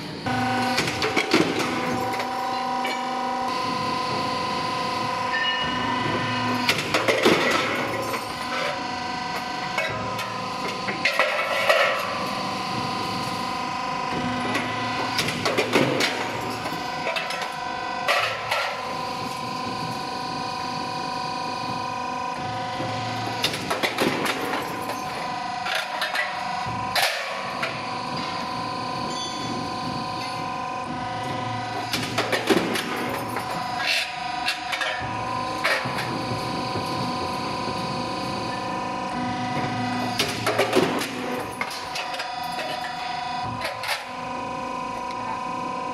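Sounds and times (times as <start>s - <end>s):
roll forming machine whining: 0.0s - 45.9s.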